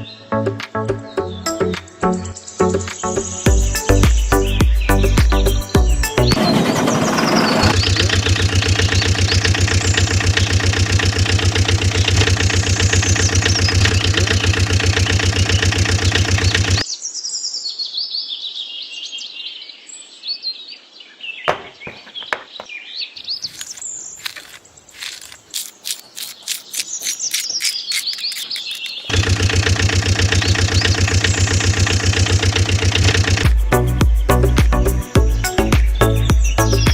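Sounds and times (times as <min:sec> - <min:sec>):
small birds chirping: 0:01.0 - 0:36.9.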